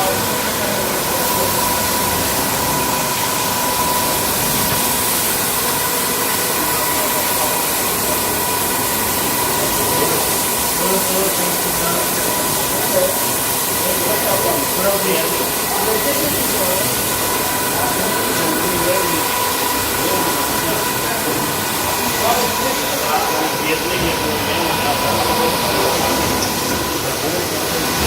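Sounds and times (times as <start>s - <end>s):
carpet washing machine hissing: 0.0s - 28.0s
constant machine whine: 0.0s - 28.0s.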